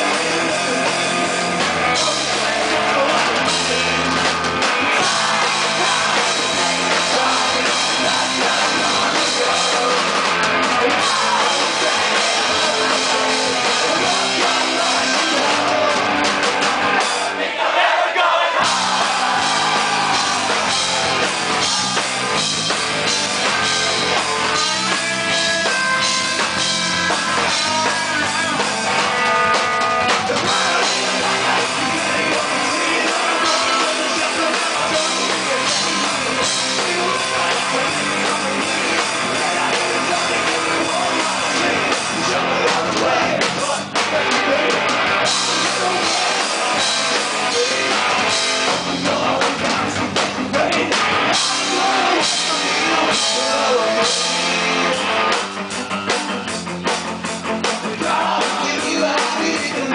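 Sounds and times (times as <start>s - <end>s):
distorted electric guitar: 0.0s - 17.4s, 18.6s - 59.9s
electric bass: 0.0s - 17.4s, 18.6s - 59.9s
drum kit: 0.0s - 17.9s, 18.5s - 59.9s
man singing: 0.0s - 22.1s, 23.4s - 55.4s, 57.6s - 59.9s.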